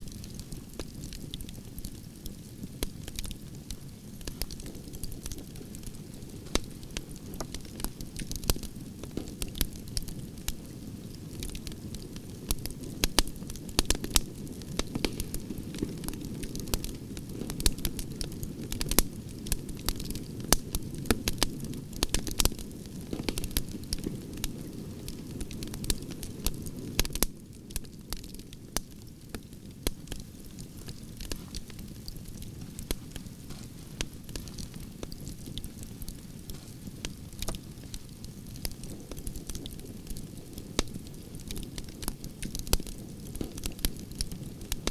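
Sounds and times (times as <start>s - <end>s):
bonfire crackling and popping: 0.0s - 44.9s.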